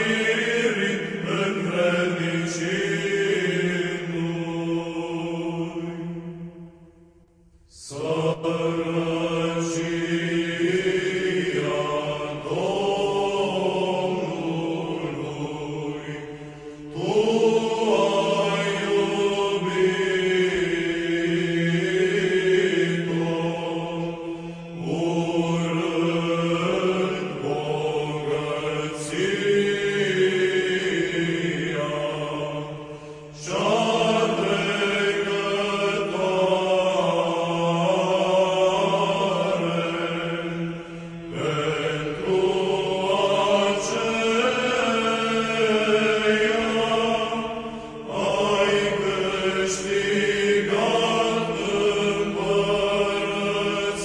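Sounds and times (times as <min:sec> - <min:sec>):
voices chanting slow melody: 0:00.0 - 0:54.0.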